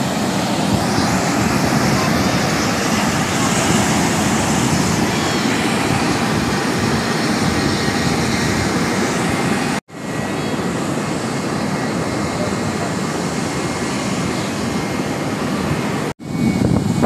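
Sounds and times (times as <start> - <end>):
loud steady rushing noise: 0.0 - 17.0.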